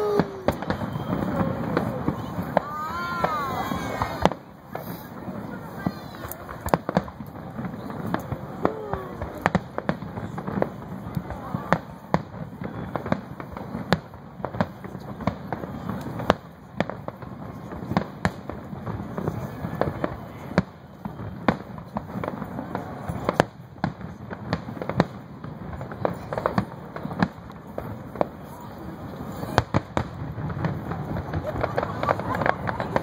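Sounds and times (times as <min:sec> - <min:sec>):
fireworks bangs: 0:00.0 - 0:33.0
small firework pops: 0:00.0 - 0:33.0.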